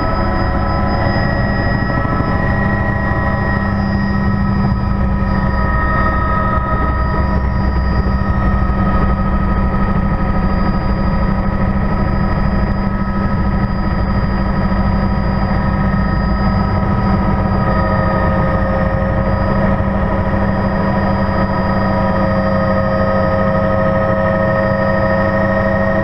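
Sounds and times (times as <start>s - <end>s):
helicopter turbine and rotor: 0.0s - 26.0s.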